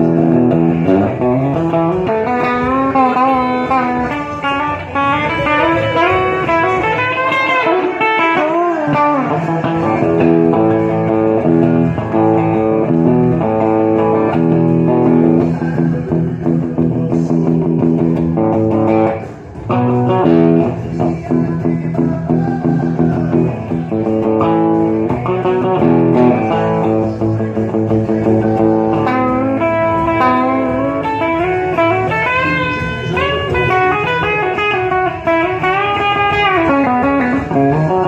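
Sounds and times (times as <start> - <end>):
bass guitar: 0.0 - 38.0
electric guitar playing: 0.0 - 38.0.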